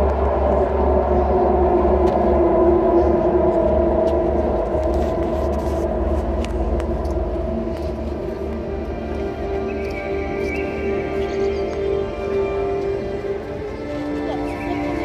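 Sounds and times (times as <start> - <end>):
deep rumble: 0.0 - 15.0
sustained drone over loudspeakers: 0.0 - 15.0.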